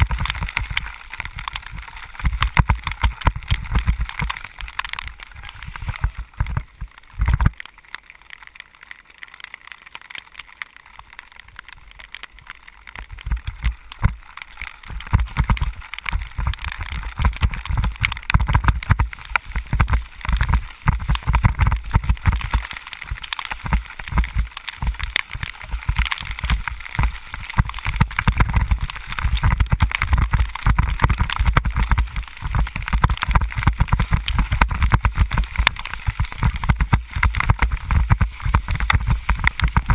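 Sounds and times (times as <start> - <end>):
crackling hiss of rain: 0.0 - 39.9.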